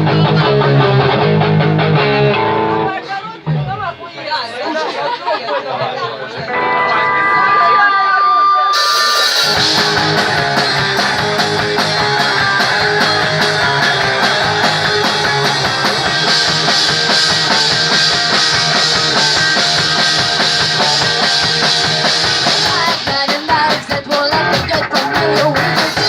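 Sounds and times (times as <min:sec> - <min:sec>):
punk rock band playing: 0:00.0 - 0:26.0.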